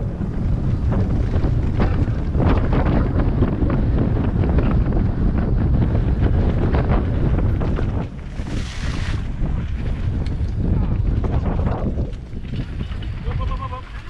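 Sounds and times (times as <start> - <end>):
bike knocks and rattles: 0.0 - 8.6, 9.2 - 14.0
wind buffeting microphone: 0.0 - 14.0.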